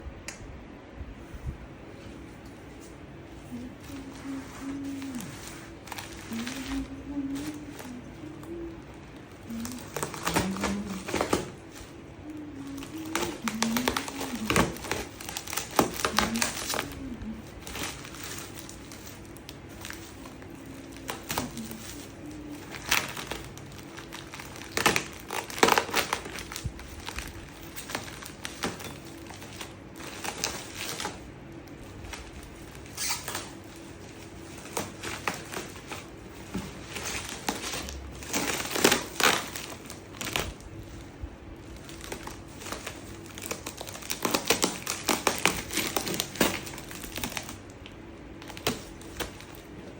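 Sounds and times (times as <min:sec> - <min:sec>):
plastic crinkling and rustling: 0:01.2 - 0:49.9.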